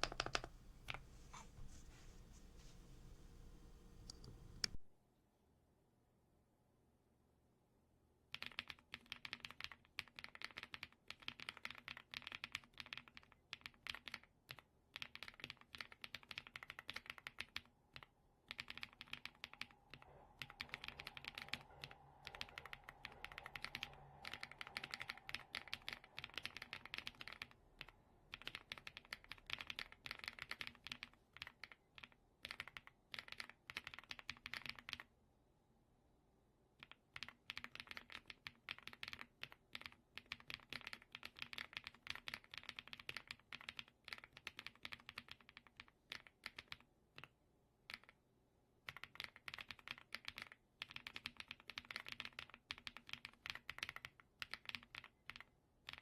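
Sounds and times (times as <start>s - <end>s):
typing on a mechanical keyboard: 0.0s - 1.0s, 8.3s - 35.1s, 36.8s - 48.2s, 48.8s - 56.0s.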